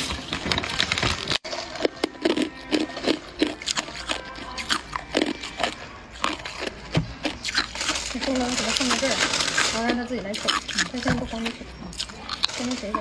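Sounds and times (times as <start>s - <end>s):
ice cubes crunching in teeth: 0.0s - 13.0s.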